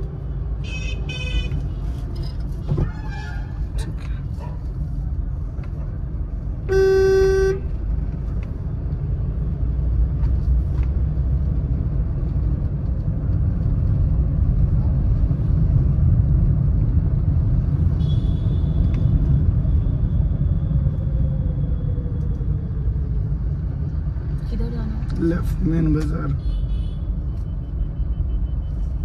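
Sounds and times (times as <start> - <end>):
tyres on road: 0.0 - 29.0.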